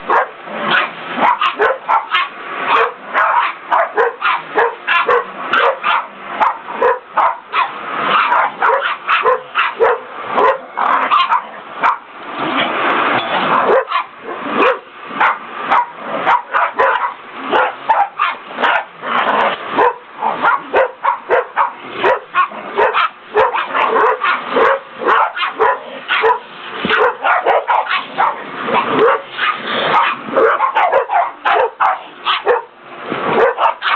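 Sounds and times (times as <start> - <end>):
small dogs barking: 0.0 - 12.1, 13.4 - 33.9.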